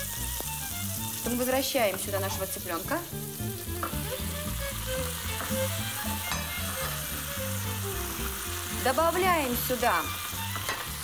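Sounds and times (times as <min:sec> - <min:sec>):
chicken sizzling in a frying pan: 0:00.0 - 0:11.0
food being stirred in a pan: 0:00.0 - 0:11.0.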